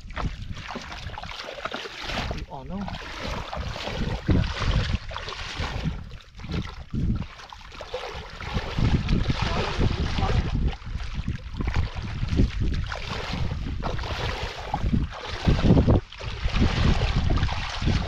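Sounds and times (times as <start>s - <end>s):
footsteps wading through water: 0.0s - 18.0s
wind rumbling on microphone: 0.0s - 18.0s.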